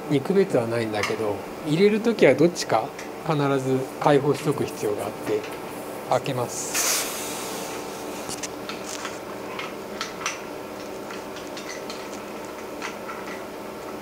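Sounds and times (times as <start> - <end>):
lab equipment humming: 0.0 - 14.0.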